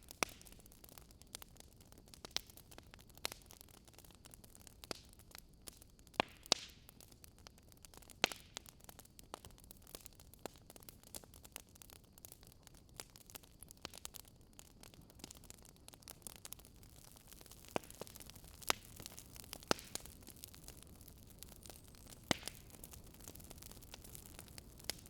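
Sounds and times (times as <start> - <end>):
faint steady hiss: 0.0 - 25.0
wood fire crackling: 0.0 - 25.0.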